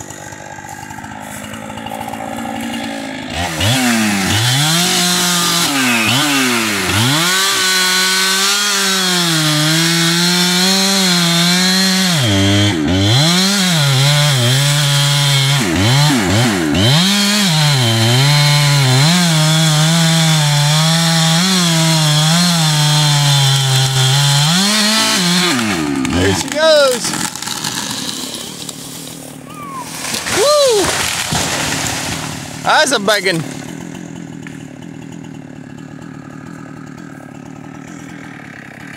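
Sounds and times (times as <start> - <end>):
chainsaw cutting a tree: 0.0 - 38.9.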